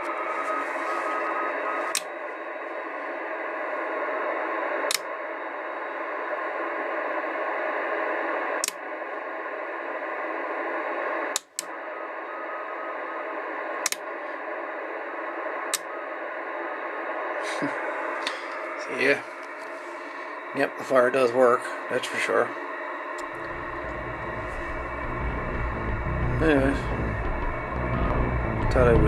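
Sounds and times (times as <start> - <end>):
radio static hiss: 0.0 - 4.8, 7.9 - 29.0.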